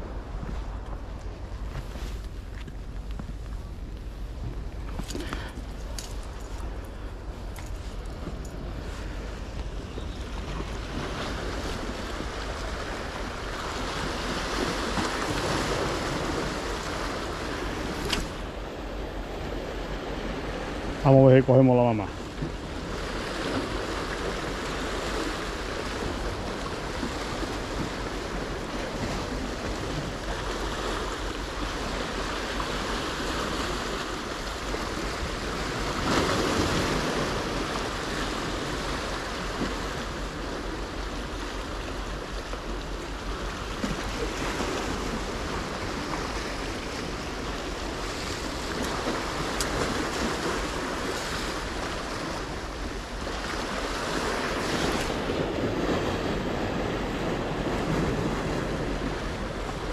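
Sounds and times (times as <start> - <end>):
sea waves breaking over rocks: 0.0 - 59.9.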